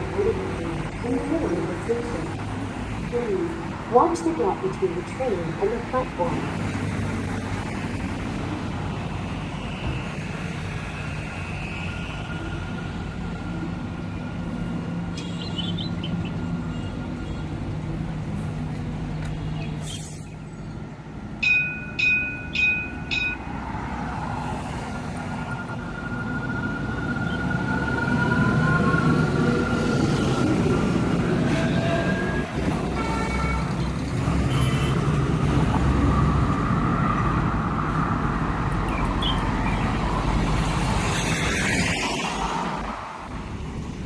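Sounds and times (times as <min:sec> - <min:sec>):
tram electric whine: 0:00.0 - 0:19.5, 0:21.0 - 0:40.7.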